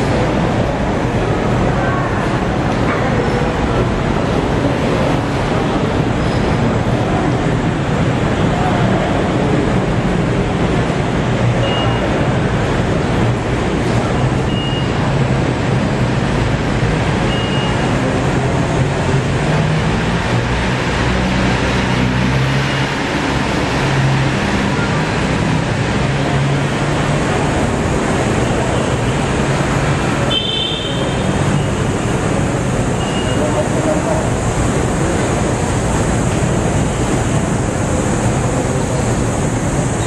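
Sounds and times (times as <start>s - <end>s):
steady loud background noise: 0.0s - 40.0s.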